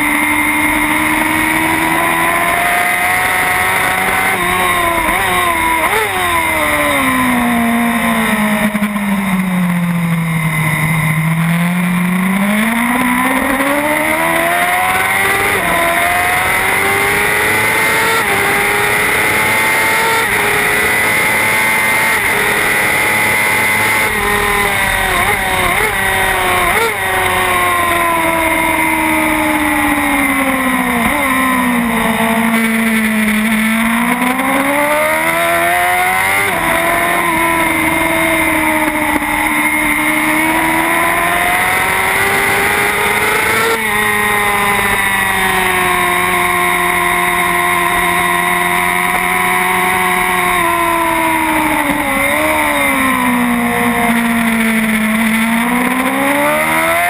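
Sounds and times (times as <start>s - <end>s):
race motorcycle engine: 0.0s - 57.0s.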